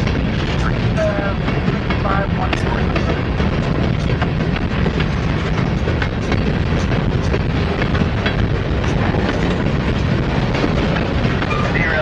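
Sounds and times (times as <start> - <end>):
sharp clicks and clanks: 0.0 - 12.0
train wheels rumbling on rail: 0.0 - 12.0.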